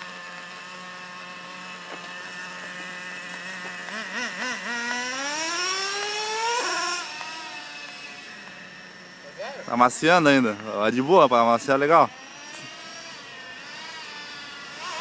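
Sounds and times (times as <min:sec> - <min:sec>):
small glow engine revving: 0:00.0 - 0:15.0.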